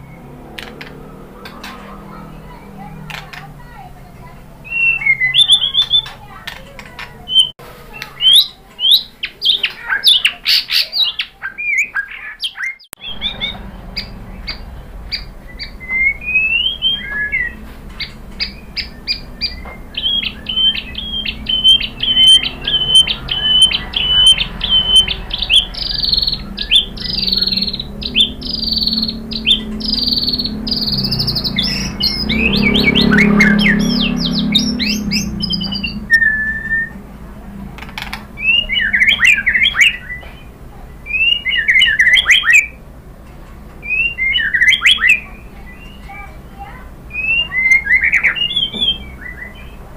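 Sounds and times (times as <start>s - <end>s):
bird singing whistles and clicks: 0.1s - 2.0s, 4.7s - 37.0s, 41.1s - 42.8s, 43.8s - 46.2s, 47.1s - 49.7s.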